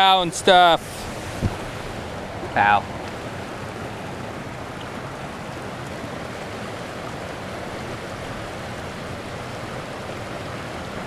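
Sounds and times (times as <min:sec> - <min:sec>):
water rushing over spillway: 0:00.0 - 0:11.0.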